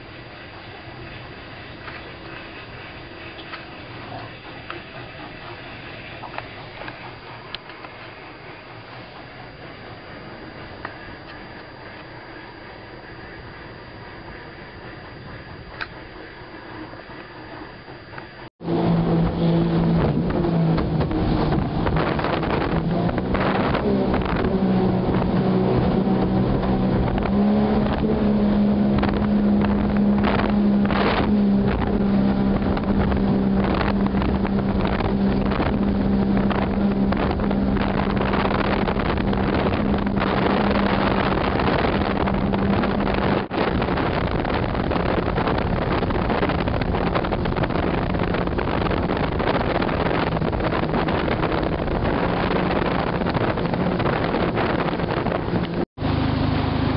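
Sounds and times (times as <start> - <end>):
rushing water: 0.0 - 13.1, 18.4 - 56.9
motorboat engine running: 0.0 - 56.9
wind on microphone: 0.0 - 56.9.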